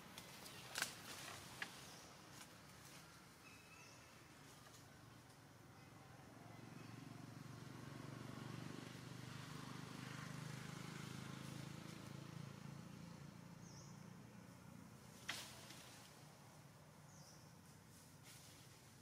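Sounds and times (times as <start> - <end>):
faint low engine rumble: 0.0 - 19.0.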